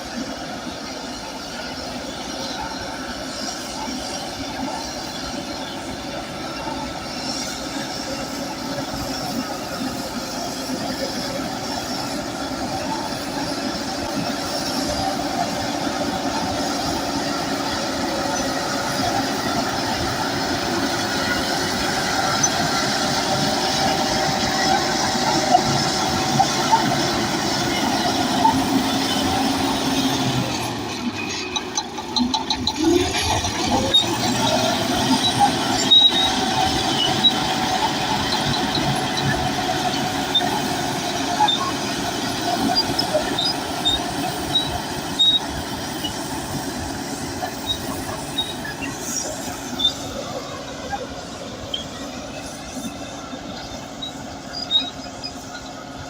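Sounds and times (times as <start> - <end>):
bulldozer diesel engine: 0.0 - 56.0
steel tracks clattering: 0.0 - 56.0.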